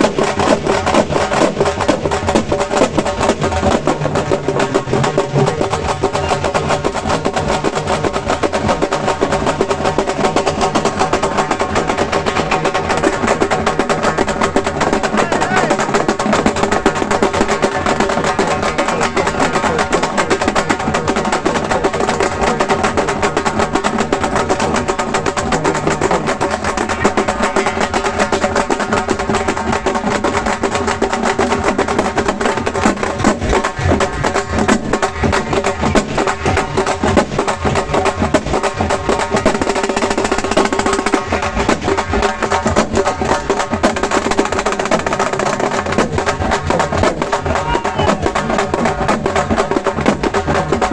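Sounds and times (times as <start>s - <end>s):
frame drums struck with sticks: 0.0s - 50.9s.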